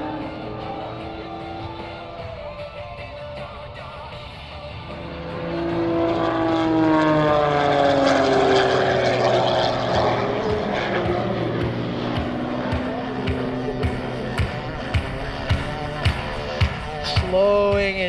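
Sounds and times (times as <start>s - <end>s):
plane piston engine and propeller: 0.0s - 18.0s.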